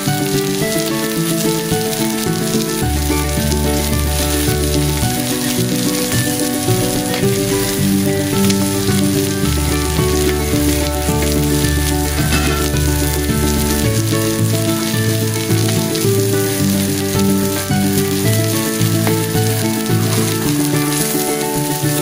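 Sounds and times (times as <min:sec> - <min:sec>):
background music held notes: 0:00.0 - 0:22.0
meat sizzling in a grill pan: 0:00.0 - 0:22.0.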